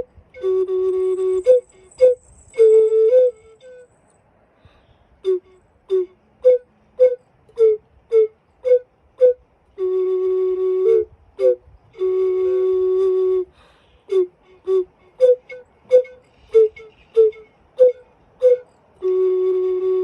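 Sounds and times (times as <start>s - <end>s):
ocarina melody: 0.0s - 4.1s, 5.2s - 20.0s.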